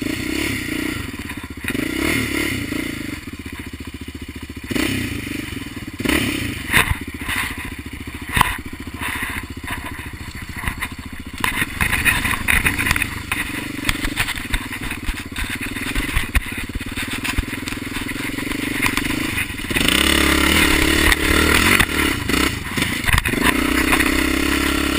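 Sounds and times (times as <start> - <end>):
bike rattling over bumps: 0.0 - 24.9
dirt bike engine revving: 0.0 - 24.9.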